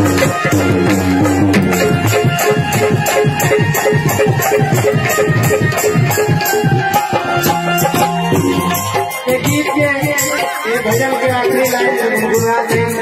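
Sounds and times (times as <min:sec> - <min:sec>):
held melody: 0:00.0 - 0:13.0
tabla drumming: 0:00.0 - 0:13.0.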